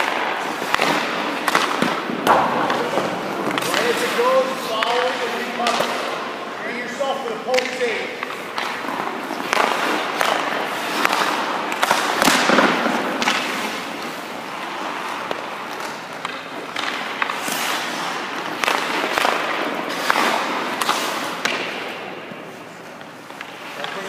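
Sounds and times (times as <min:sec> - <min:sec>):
pads and stick clacking on ice: 0:00.0 - 0:24.0
skate blades scraping on ice: 0:00.0 - 0:24.0.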